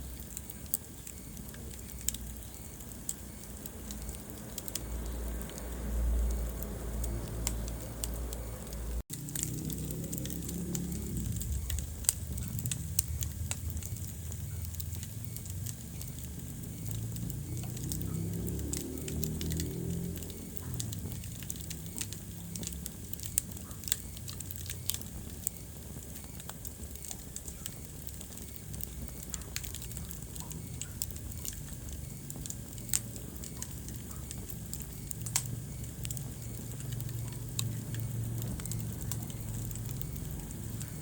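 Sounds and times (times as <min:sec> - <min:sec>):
fire crackling and popping: 0:00.0 - 0:41.0
rumble of flames: 0:00.0 - 0:41.0.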